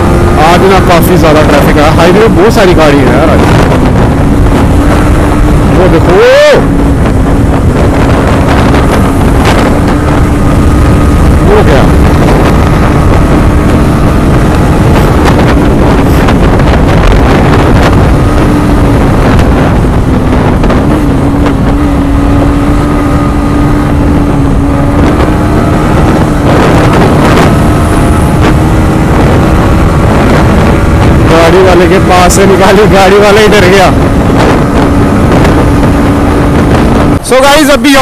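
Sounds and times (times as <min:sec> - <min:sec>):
motorcycle engine running: 0:00.0 - 0:38.0
wind noise on microphone: 0:00.0 - 0:38.0.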